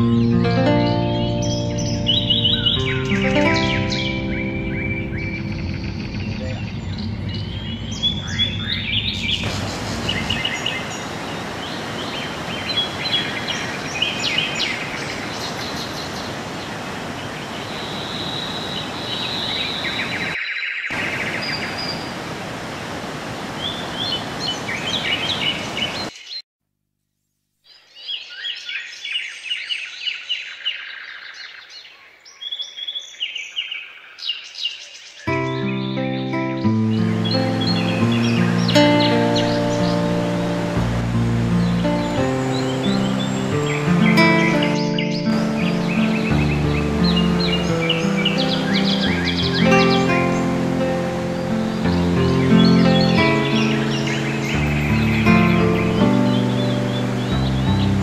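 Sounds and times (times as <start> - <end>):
small birds chirping: 0.0 - 22.2, 23.6 - 26.4, 27.6 - 58.0
rushing water: 0.7 - 26.1, 35.3 - 58.0.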